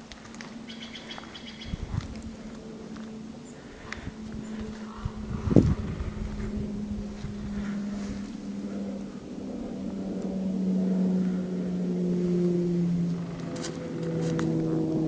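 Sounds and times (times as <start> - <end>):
snowmobile engine running: 1.8 - 15.0.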